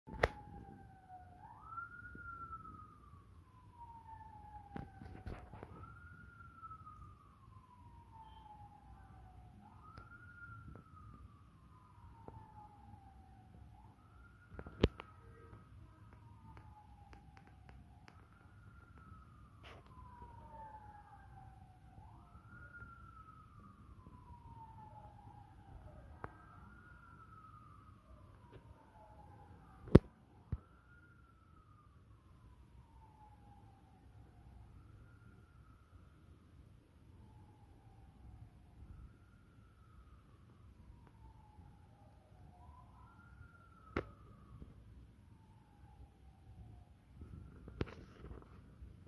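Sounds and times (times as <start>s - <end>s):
siren wailing: 0.1s - 49.0s.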